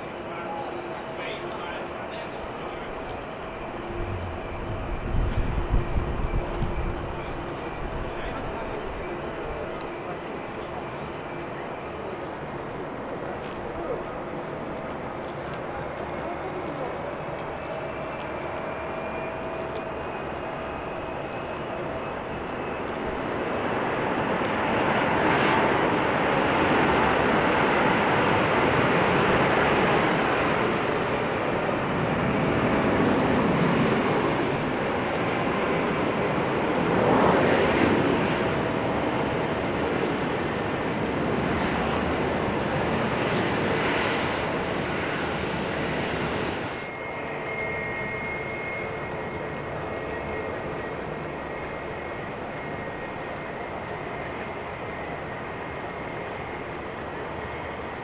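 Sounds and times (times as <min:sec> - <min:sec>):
jet engine rumble with whine: 0:00.0 - 0:58.0.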